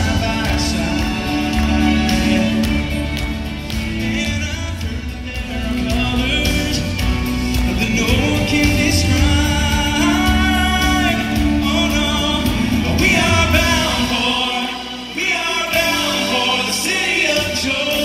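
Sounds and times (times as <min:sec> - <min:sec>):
acoustic guitars and band: 0:00.0 - 0:18.0
gospel vocal group singing: 0:00.0 - 0:18.0.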